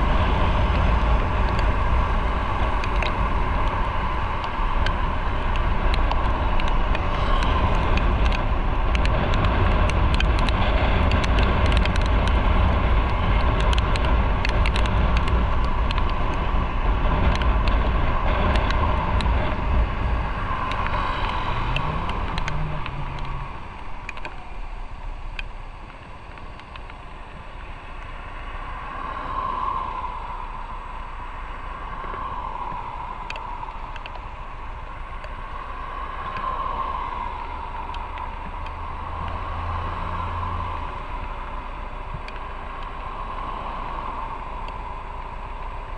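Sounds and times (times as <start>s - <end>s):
wind and road rush: 0.0s - 45.9s.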